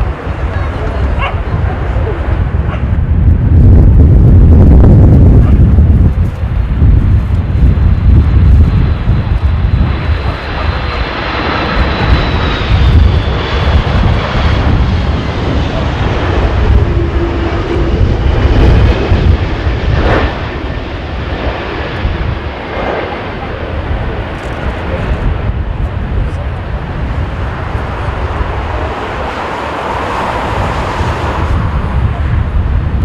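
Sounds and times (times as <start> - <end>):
jet engines whining: 0.0 - 33.0
wind buffeting microphone: 0.0 - 33.0.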